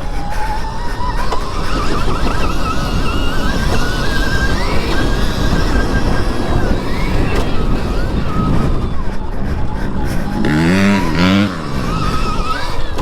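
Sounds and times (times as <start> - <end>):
electric motorbike motor whining: 0.0 - 13.0
wind noise: 0.0 - 13.0.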